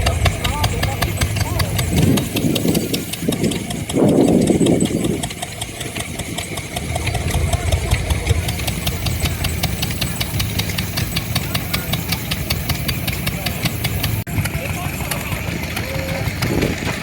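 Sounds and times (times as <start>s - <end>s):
engine idling with even ticking: 0.0s - 17.0s.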